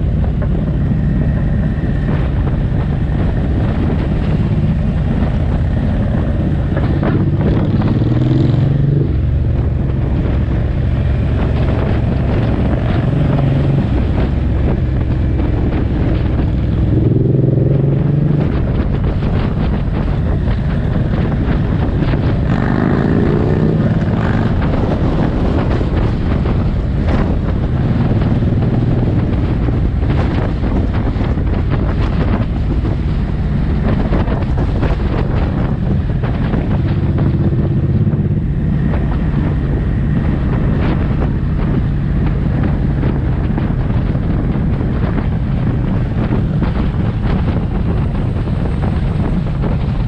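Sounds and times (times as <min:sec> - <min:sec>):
motorcycle engine running: 0:00.0 - 0:50.0
wind noise: 0:00.0 - 0:50.0.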